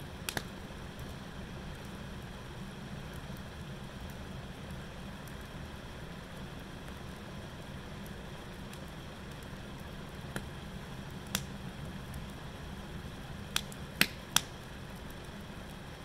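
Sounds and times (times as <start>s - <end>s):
low fire rumble: 0.0s - 16.0s
wood fire popping: 0.0s - 16.0s.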